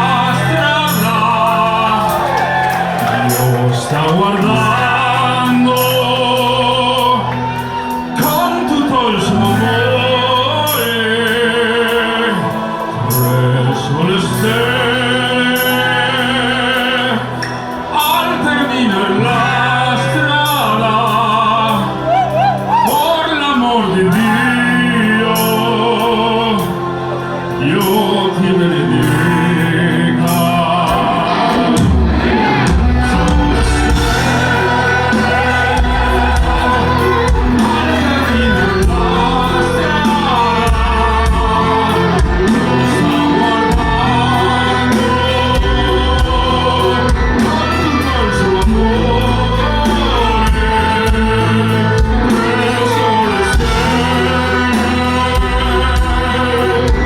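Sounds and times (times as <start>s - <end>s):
live rock band: 0.0s - 57.0s
man singing operatically: 0.0s - 57.0s.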